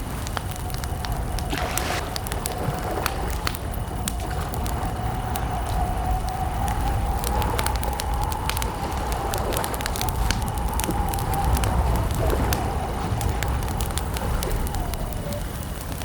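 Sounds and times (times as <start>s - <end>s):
campfire crackling: 0.0s - 16.0s
continuous wavering tone: 0.0s - 16.0s.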